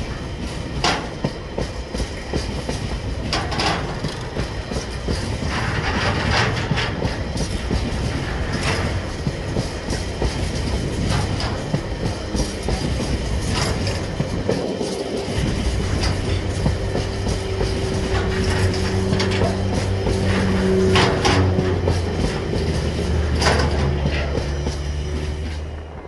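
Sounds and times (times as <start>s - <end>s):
train wheels clacking on rails: 0.0s - 26.0s.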